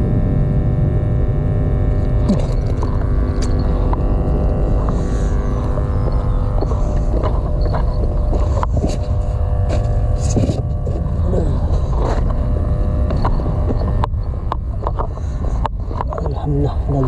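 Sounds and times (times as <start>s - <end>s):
low rumble: 0.0s - 17.0s
motor droning: 0.0s - 17.0s.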